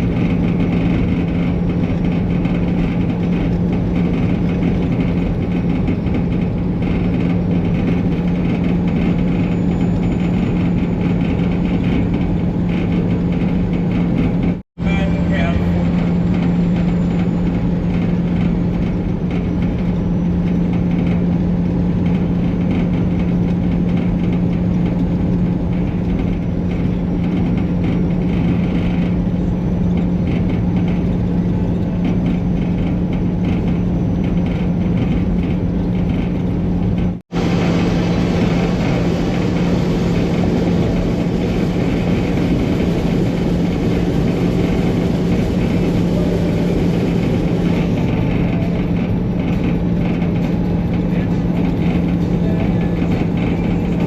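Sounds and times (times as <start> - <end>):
road rumble: 0.0 - 54.0
truck diesel engine droning: 0.0 - 54.0.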